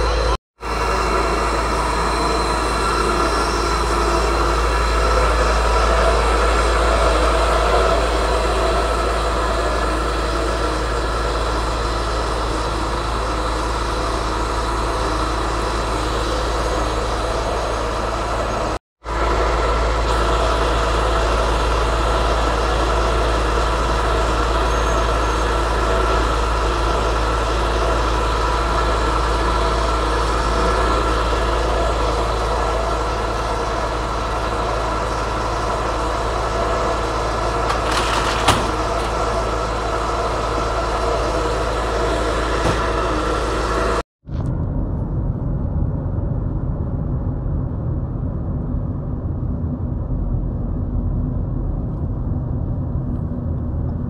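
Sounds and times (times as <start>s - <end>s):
diesel truck engines rumbling: 0.0s - 44.0s.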